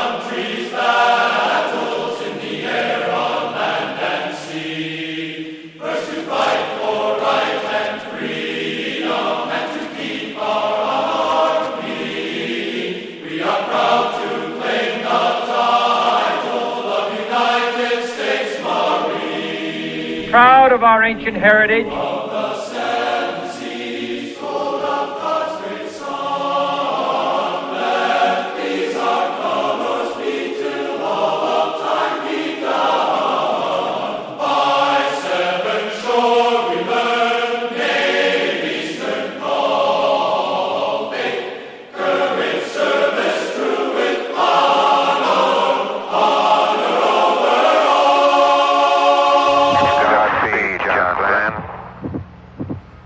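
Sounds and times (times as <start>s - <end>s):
choir singing in harmony: 0.0s - 20.7s, 22.0s - 50.0s.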